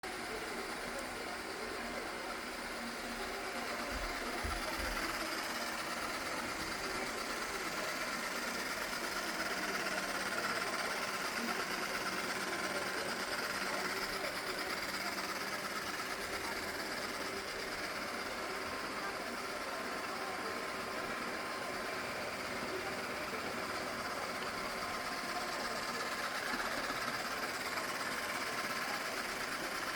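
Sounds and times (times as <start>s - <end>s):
robot vacuum motor whir: 0.1s - 29.9s.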